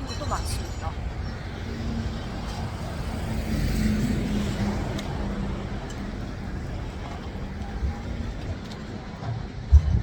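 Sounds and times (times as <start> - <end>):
low rumble of vehicle noise: 0.0 - 10.0.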